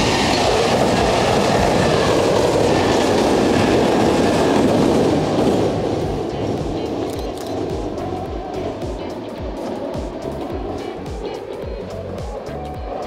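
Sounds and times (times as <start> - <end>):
train wheels clattering: 0.0 - 13.0.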